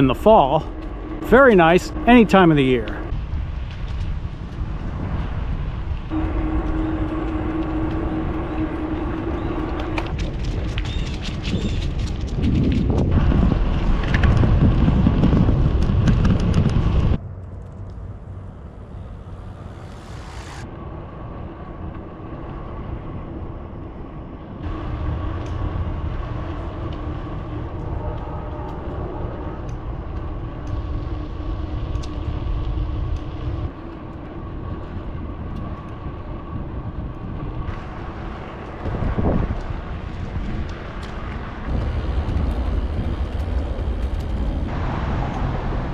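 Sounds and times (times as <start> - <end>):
bicycle road noise: 0.0 - 45.9
wind rumbling on microphone: 0.0 - 45.9.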